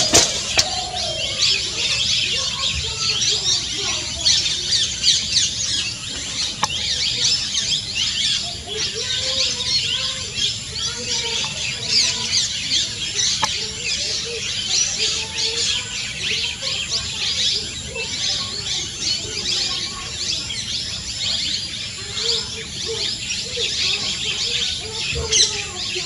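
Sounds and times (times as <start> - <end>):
birds chirping: 0.0 - 26.0
lower bird calls: 0.0 - 26.0.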